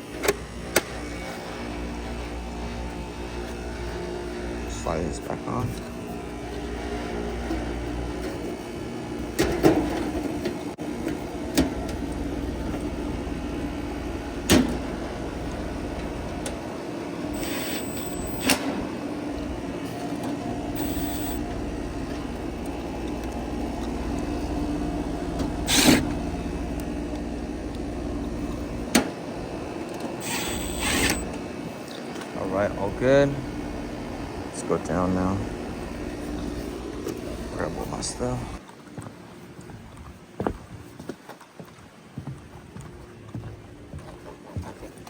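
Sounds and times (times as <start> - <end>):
air conditioner humming: 0.0 - 38.7.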